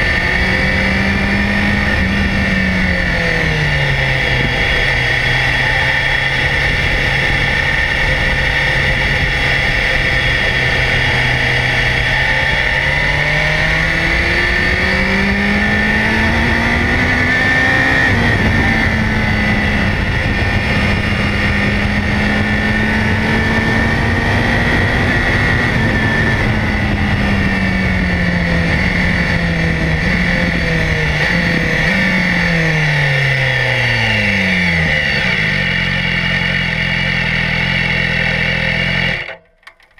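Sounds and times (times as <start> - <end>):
wind rush: 0.0 - 32.9
motorcycle engine revving: 0.0 - 39.9.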